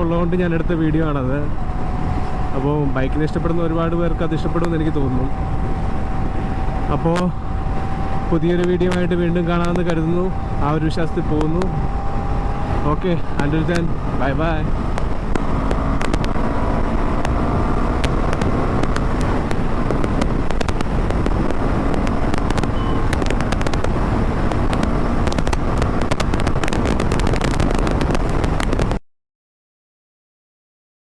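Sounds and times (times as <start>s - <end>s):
wind on microphone: 0.0s - 29.0s
motorcycle engine running: 1.0s - 29.0s.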